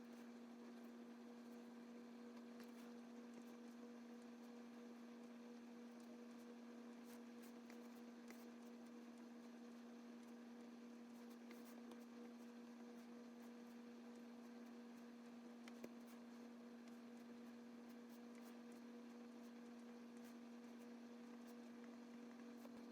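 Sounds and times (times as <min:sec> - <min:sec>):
faint electrical hum: 0:00.0 - 0:22.9.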